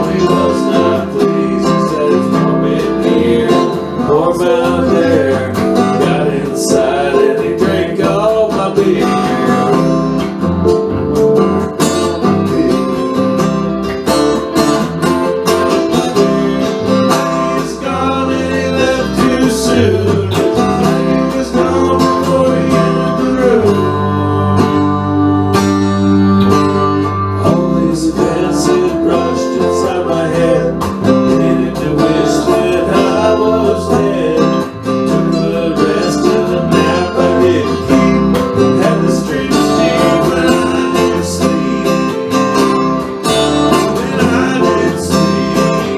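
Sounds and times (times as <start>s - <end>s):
acoustic guitar picking: 0.0s - 45.9s.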